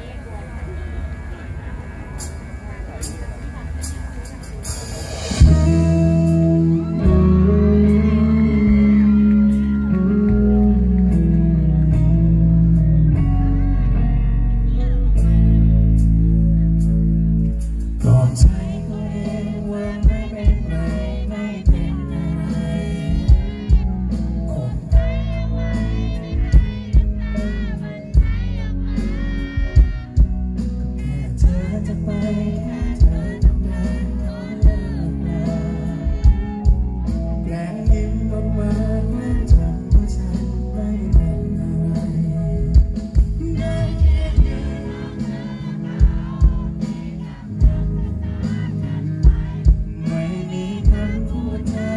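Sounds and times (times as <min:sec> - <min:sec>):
live pop band music: 0:00.0 - 0:51.9
regular drum beat: 0:03.8 - 0:11.3, 0:17.6 - 0:51.9
man singing into a microphone: 0:05.3 - 0:16.1, 0:17.6 - 0:51.9.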